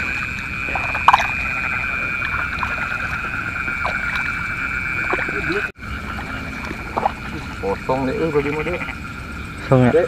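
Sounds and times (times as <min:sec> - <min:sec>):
frogs and insects trilling: 0:00.0 - 0:10.0.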